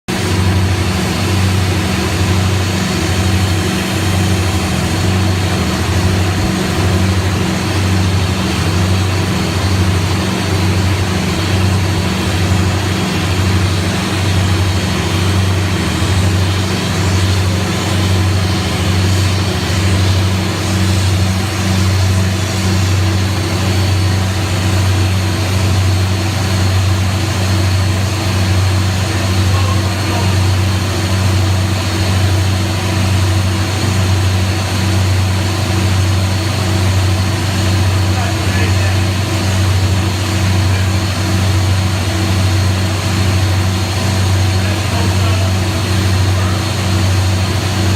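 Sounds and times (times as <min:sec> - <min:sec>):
engine idling: 0:00.1 - 0:47.9.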